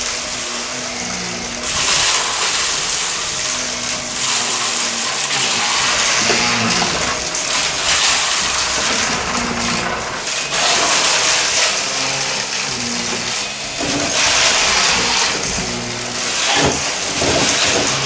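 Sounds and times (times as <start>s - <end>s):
debris rattling through vacuum head: 0.0s - 18.0s
vacuum cleaner running over carpet: 0.0s - 18.0s.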